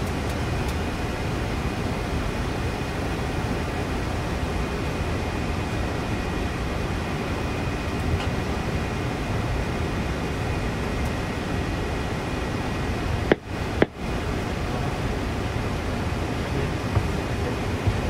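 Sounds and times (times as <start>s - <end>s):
faint high whine: 0.0s - 18.0s
hiss of airflow and ventilation: 0.0s - 18.0s.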